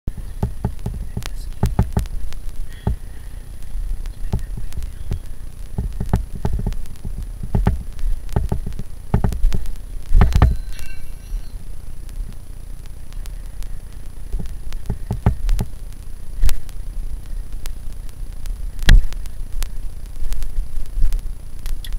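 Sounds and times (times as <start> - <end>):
low rumble: 0.1 - 21.6.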